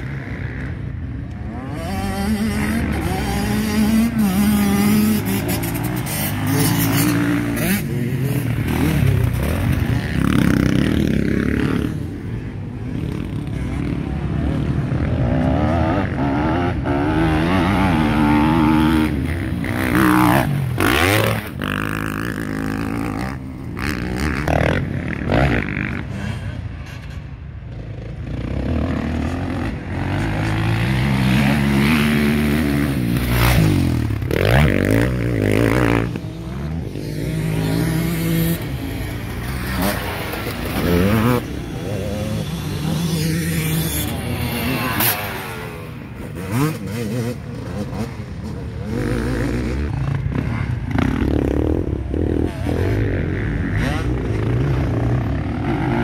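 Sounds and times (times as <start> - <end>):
dirt bike engines revving: 0.0 - 56.0
dirt bike passing close: 0.0 - 56.0.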